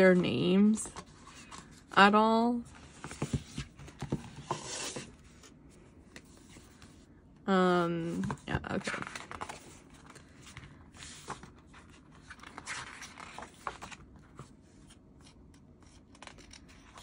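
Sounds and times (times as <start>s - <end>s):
pages rustling and turning: 0.0s - 7.0s, 8.1s - 17.0s.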